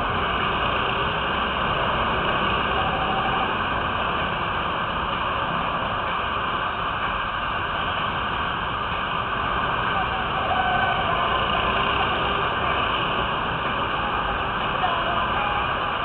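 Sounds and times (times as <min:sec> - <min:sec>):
go-kart engines droning: 0:00.0 - 0:16.0.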